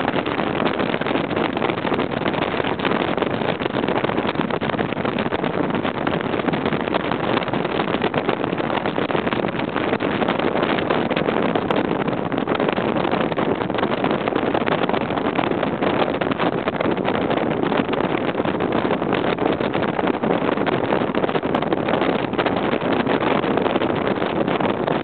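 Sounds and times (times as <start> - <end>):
boat engine at high speed: 0.0 - 25.0
wind buffeting microphone: 0.0 - 25.0.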